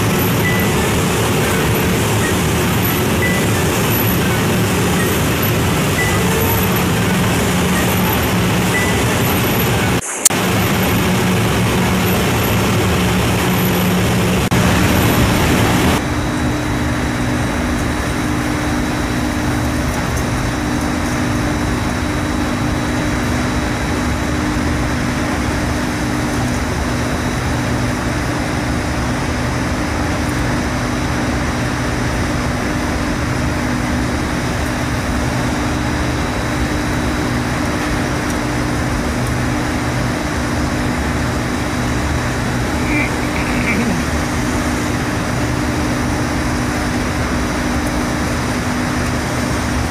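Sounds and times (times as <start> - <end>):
wet and dry vacuum cleaner running: 0.0 - 49.9.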